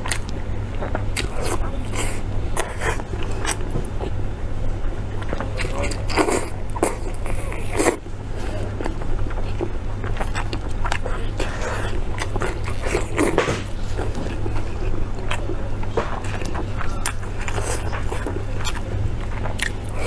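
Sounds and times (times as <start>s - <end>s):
chewing and crunching: 0.0s - 20.0s
steady low hum: 0.0s - 20.0s.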